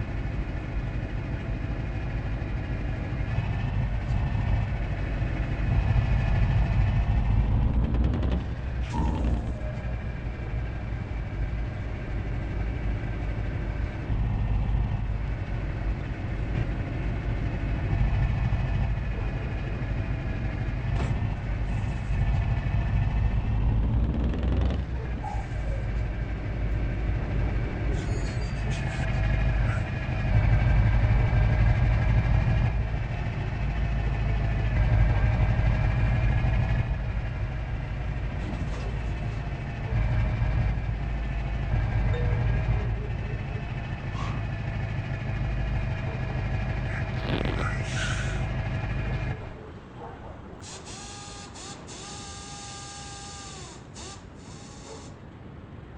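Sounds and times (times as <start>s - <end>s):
engine whining tones: 0.0s - 55.5s
truck engine rumbling: 0.0s - 55.9s.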